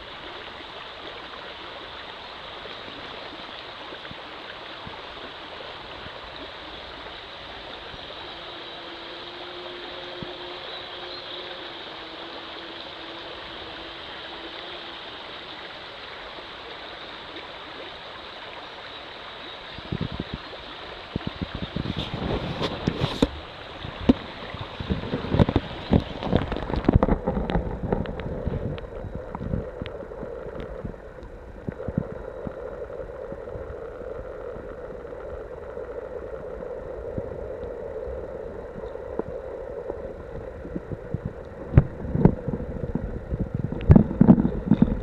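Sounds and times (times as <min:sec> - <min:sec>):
creek water rushing underwater: 0:00.0 - 0:45.0.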